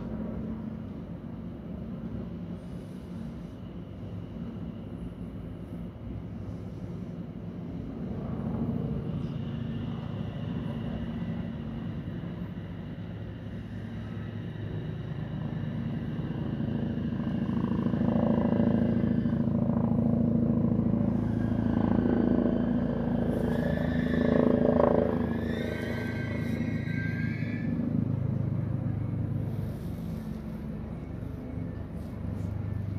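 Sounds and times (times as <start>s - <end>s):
vehicle engine humming: 0.0s - 32.9s.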